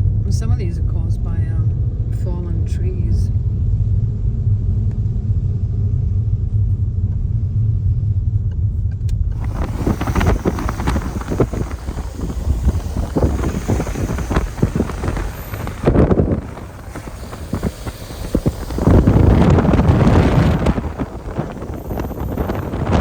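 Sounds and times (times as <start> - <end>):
car driving on rough road: 3.4 - 23.0.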